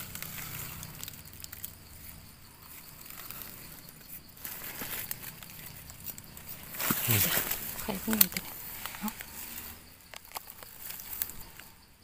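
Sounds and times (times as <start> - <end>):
knife scraping soil off mushrooms: 0.0 - 11.7.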